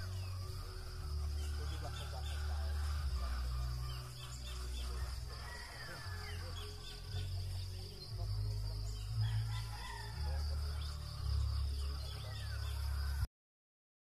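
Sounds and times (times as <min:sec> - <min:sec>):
high-pitched insect drone: 0:00.0 - 0:13.3.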